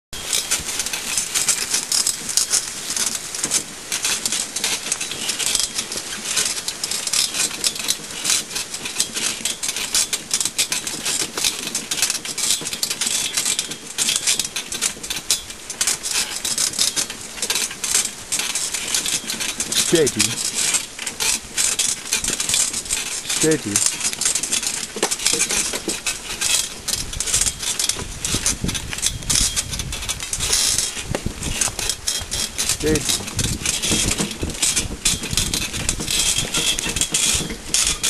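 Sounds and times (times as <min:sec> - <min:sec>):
carriage rattling over rough track: 0:00.2 - 0:38.0.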